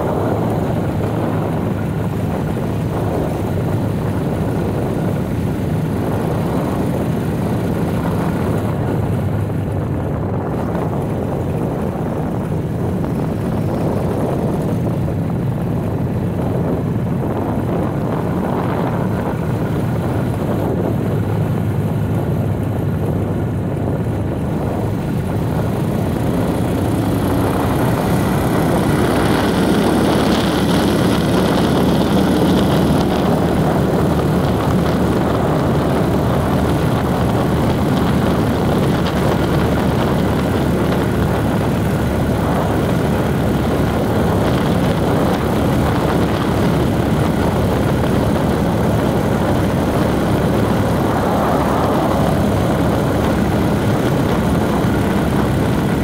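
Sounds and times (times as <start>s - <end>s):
road noise: 0.0s - 56.0s
vehicle engine running: 0.0s - 56.0s.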